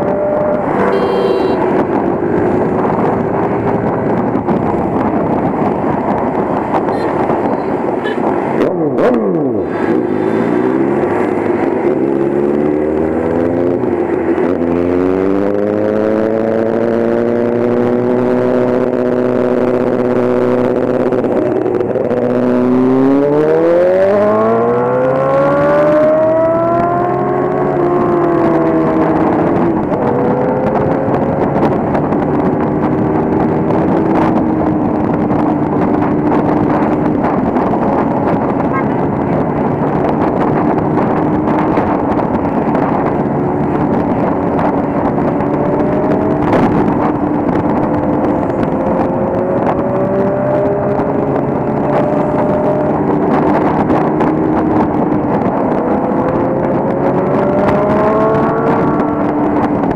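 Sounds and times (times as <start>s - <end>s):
motorcycle engine accelerating: 0.0s - 59.9s
road and wind noise: 0.0s - 59.9s.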